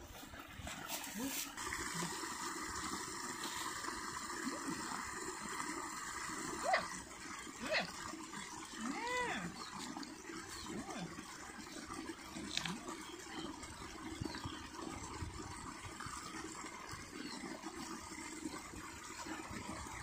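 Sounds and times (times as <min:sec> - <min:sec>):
water trickling in stream: 0:00.0 - 0:20.0.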